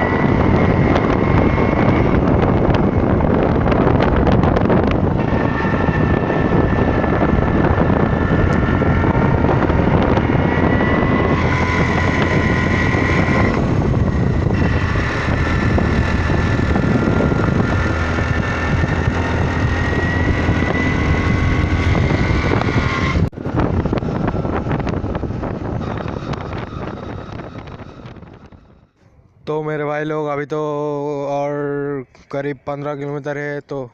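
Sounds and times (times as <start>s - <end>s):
vehicle engine and road noise: 0.0s - 29.5s
high whine: 0.0s - 33.9s
wind on microphone: 0.0s - 33.9s.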